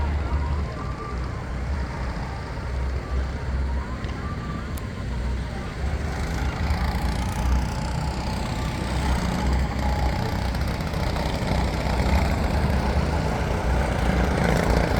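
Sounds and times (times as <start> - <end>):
go-kart engine rumbling: 0.0 - 14.9.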